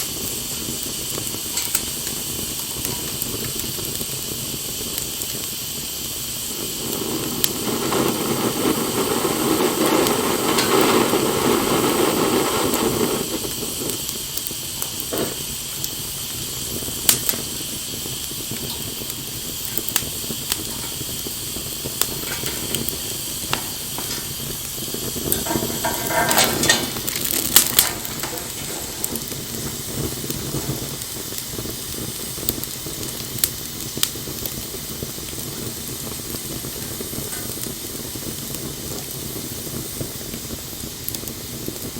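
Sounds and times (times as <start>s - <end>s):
campfire hissing: 0.0s - 41.9s
fire pops and crackles: 0.0s - 41.9s.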